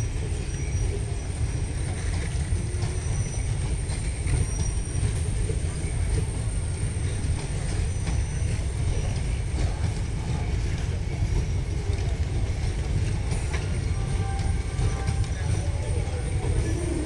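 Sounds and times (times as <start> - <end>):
faint clicks of train wheels: 0.0 - 17.0
train coaches rumbling on track: 0.0 - 17.0.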